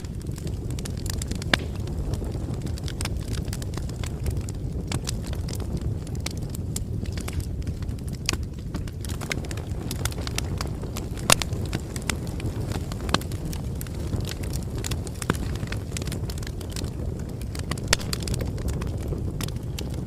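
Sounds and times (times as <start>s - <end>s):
bonfire flame rumble: 0.0s - 20.0s
fire crackling and popping: 0.0s - 20.0s.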